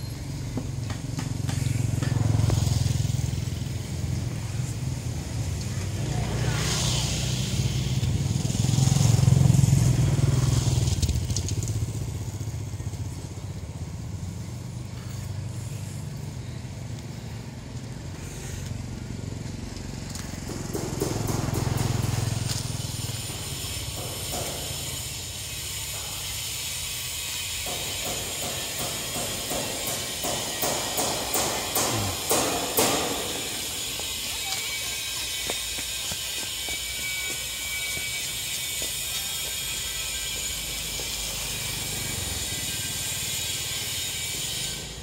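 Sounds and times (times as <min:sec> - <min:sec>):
motor vehicles passing: 0:00.0 - 0:26.0, 0:27.8 - 0:45.0.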